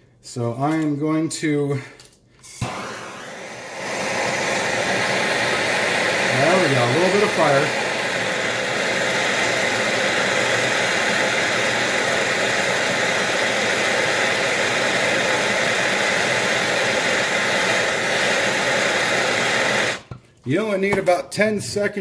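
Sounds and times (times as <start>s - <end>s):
gas torch hissing: 2.4s - 20.1s.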